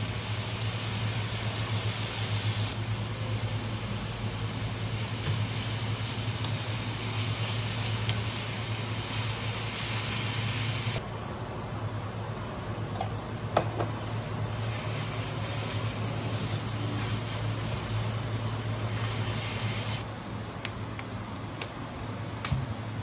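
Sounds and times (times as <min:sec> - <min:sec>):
noodles sizzling in a pan: 0:00.0 - 0:20.0
cooktop low hum: 0:00.0 - 0:23.0.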